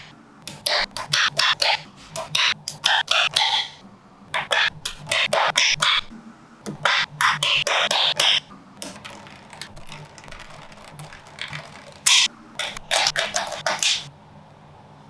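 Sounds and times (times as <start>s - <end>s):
magnetic balls clicking: 0.0s - 6.1s, 6.7s - 14.1s.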